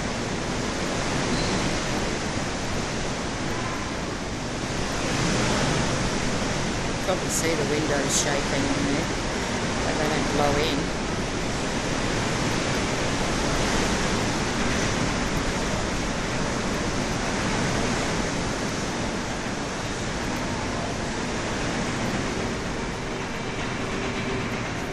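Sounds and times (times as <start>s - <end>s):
heavy rain: 0.0s - 24.9s
storm wind: 0.0s - 24.9s.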